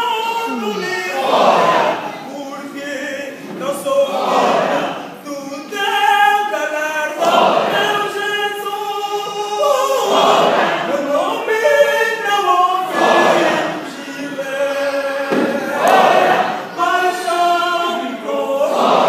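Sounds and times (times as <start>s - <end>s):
choir singing a cappella: 0.0s - 19.0s.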